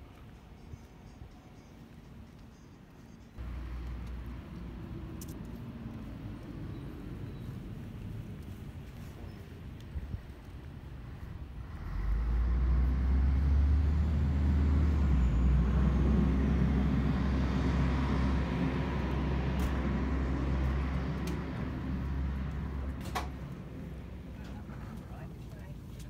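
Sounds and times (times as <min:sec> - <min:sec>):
tram rumbling to a halt: 0:03.4 - 0:26.0.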